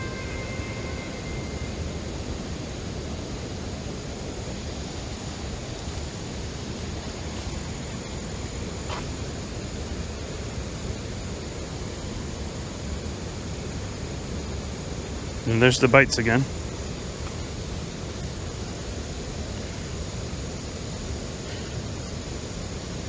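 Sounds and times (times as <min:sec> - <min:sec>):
rushing outdoor background noise: 0:00.0 - 0:23.0.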